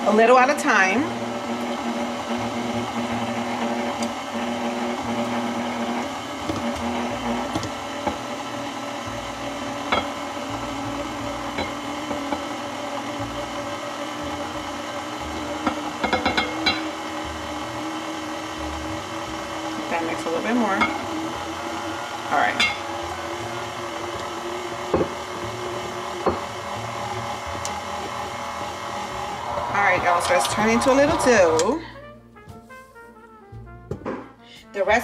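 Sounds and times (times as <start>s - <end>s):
stand mixer running: 0.0s - 31.9s.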